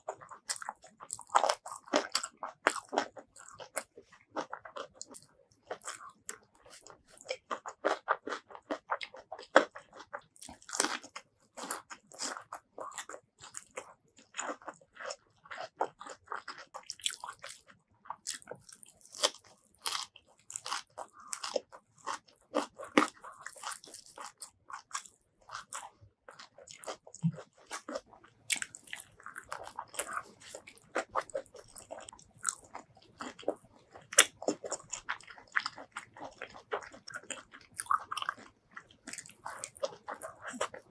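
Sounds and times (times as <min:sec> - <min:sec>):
wet chewing: 0:00.0 - 0:40.9
crunchy bites: 0:00.1 - 0:40.9.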